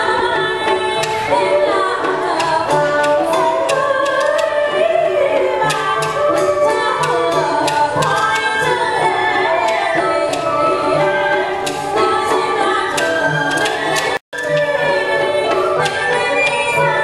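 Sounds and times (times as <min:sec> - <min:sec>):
instrumental accompaniment: 0:00.0 - 0:17.0
drum beats: 0:00.1 - 0:17.0.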